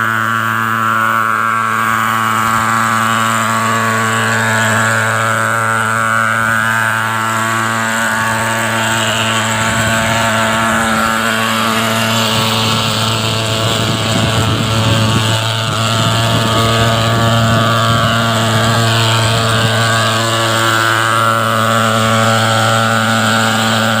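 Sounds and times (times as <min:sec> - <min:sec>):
fogging machine buzzing drone: 0:00.0 - 0:24.0.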